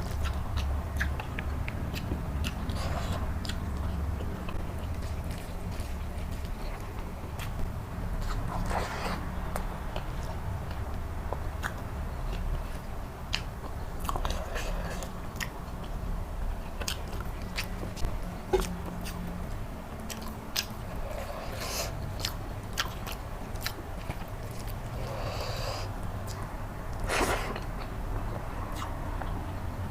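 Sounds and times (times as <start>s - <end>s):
chewing with wet mouth clicks: 0.0s - 16.0s, 16.6s - 25.2s, 26.2s - 29.6s
low steady hum: 0.0s - 29.9s.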